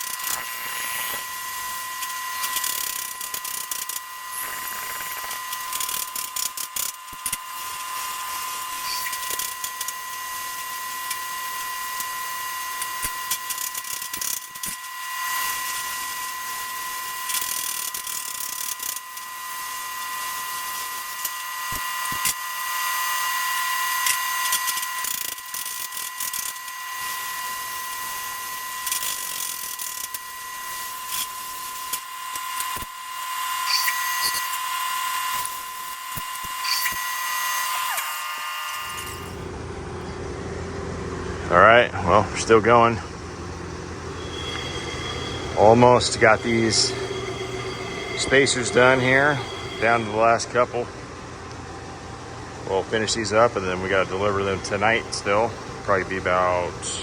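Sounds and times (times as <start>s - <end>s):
plasma cutter cutting steel: 0.0s - 39.4s, 43.4s - 51.0s.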